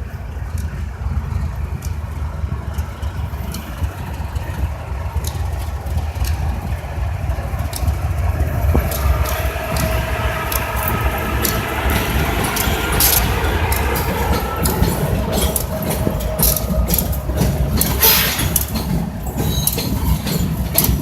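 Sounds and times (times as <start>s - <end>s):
steady whine: 0.0s - 20.8s
diesel locomotive rumble: 0.0s - 21.0s.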